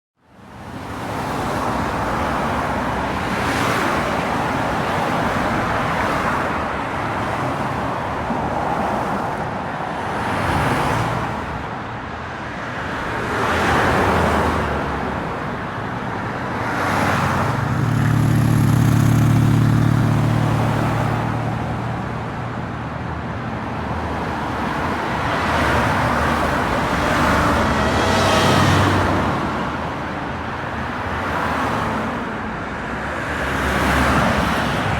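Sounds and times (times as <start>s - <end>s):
road traffic passing: 0.3s - 34.9s.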